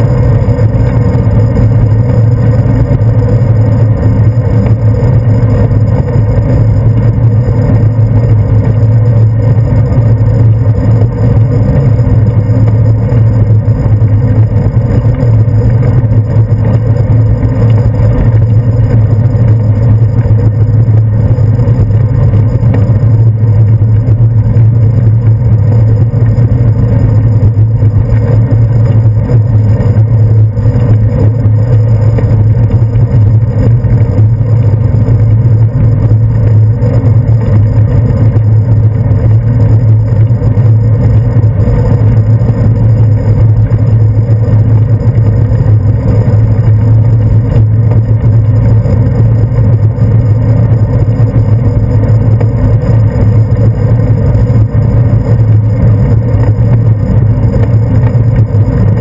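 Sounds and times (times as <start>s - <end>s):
road vibration rumble: 0.0s - 59.0s
wind rumble: 0.0s - 59.0s.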